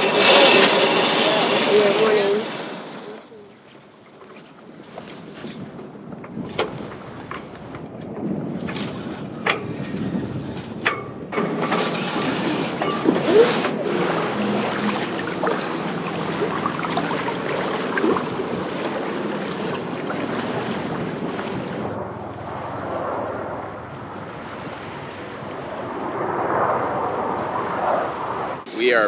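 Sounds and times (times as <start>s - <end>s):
water rushing along a hull: 0.0s - 29.0s
wind on microphone: 4.6s - 28.7s.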